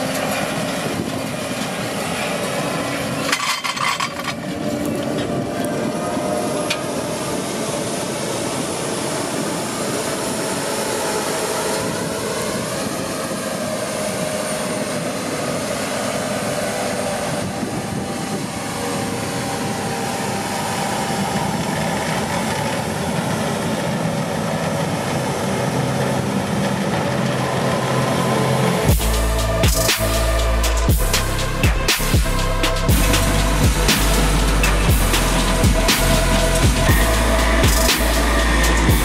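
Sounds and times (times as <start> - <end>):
harvester engine and machinery: 0.0 - 39.0.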